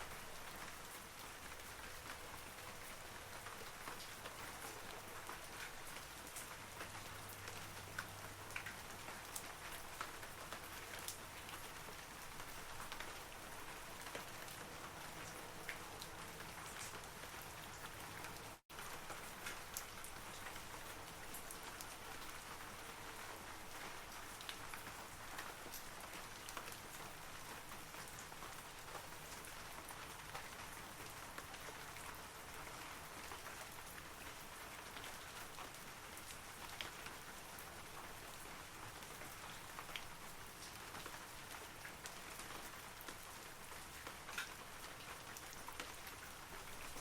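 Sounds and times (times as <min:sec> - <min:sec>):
rain pattering on trees: 0:00.0 - 0:47.0.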